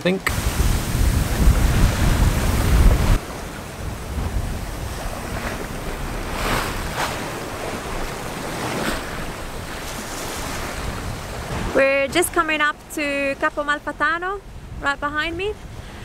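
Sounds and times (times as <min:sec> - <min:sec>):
sea rushing past hull: 0:00.0 - 0:16.0
waves breaking swishes: 0:00.3 - 0:13.3
wind buffeting microphone: 0:00.3 - 0:16.0.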